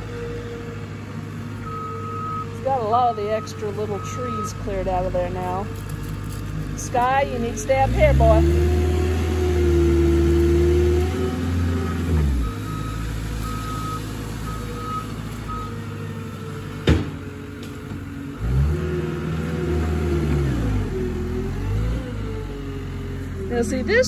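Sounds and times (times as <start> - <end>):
loader engine revving: 0.0 - 24.0.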